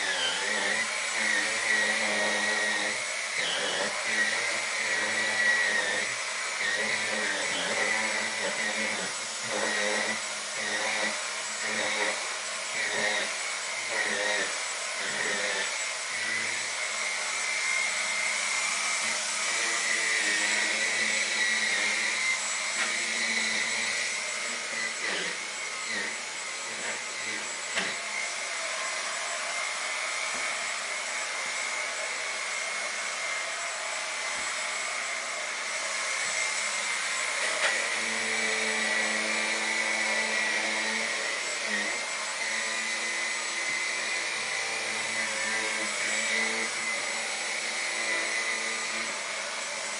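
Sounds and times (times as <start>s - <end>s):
cordless vacuum whining: 0.0s - 49.9s.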